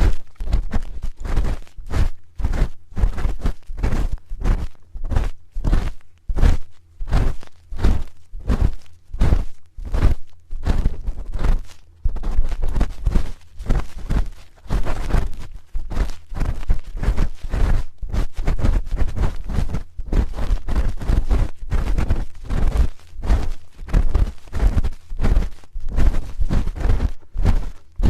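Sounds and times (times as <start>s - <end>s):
microphone handling rumble: 0.0s - 28.0s.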